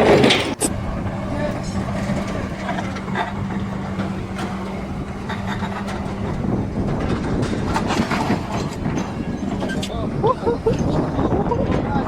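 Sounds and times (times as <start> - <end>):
clicks and knocks: 0.0 - 11.8
hum: 0.6 - 11.6
low mechanical rumble: 0.6 - 12.0.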